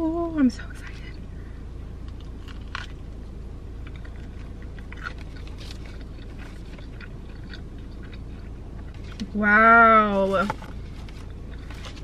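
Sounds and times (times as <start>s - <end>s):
low hum in car cabin: 0.0s - 12.0s
chewing with soft crunches: 0.6s - 9.4s, 10.5s - 12.0s.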